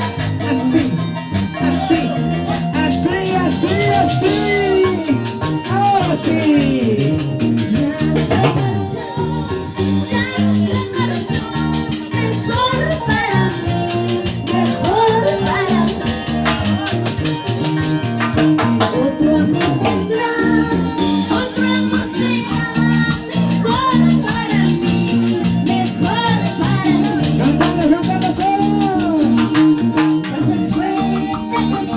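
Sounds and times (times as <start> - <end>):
folk band music with steady beat: 0.0 - 31.9
person singing melody: 0.0 - 31.9
plucked guitar: 0.0 - 31.9.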